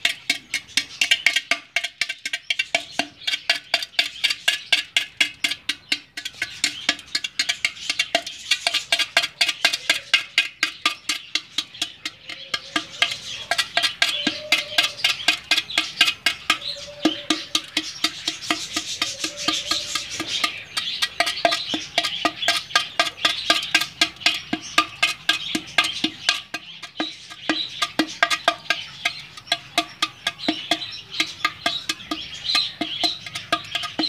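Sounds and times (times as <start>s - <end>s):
rod tapping on clay pot: 0.0s - 34.0s.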